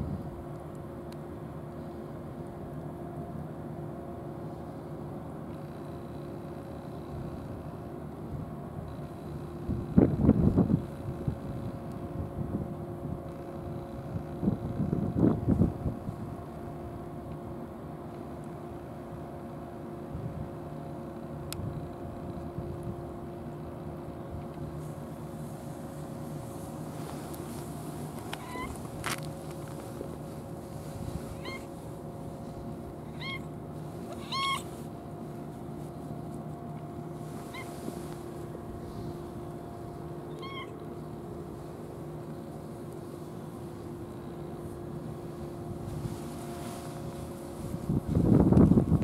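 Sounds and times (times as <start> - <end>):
engine humming steadily: 0.0 - 49.0.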